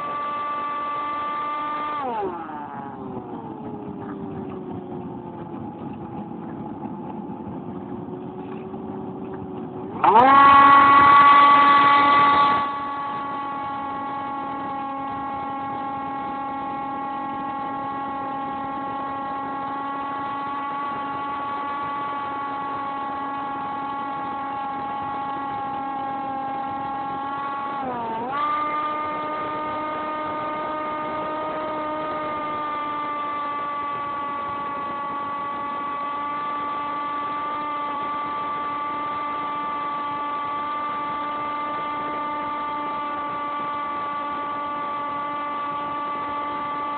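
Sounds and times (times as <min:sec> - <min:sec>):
model plane motor whine: 0:00.0 - 0:46.9.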